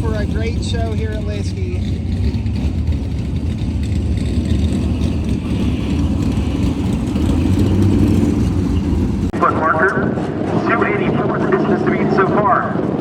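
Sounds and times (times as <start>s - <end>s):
truck engine running loud: 0.0s - 13.0s.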